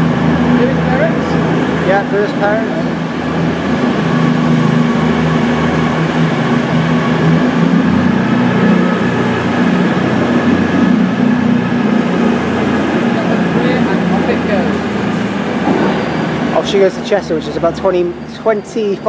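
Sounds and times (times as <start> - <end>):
train diesel engines droning: 0.0 - 19.0.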